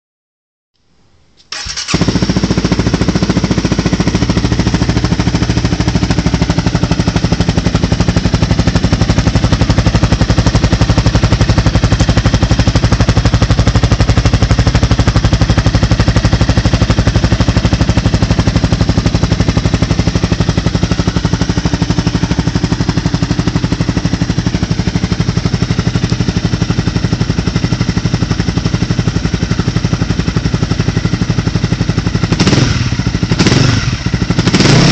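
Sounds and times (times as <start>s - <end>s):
motorcycle engine idling: 1.6s - 34.9s.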